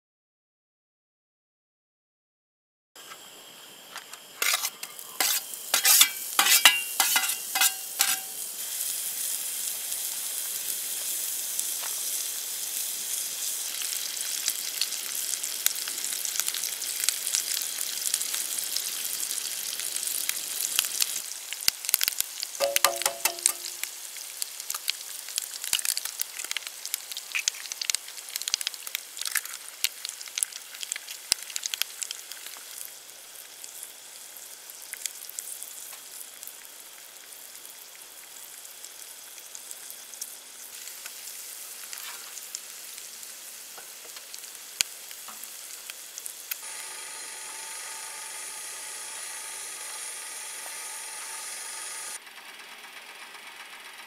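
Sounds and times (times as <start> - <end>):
food sizzling in oil: 3.1 - 52.2.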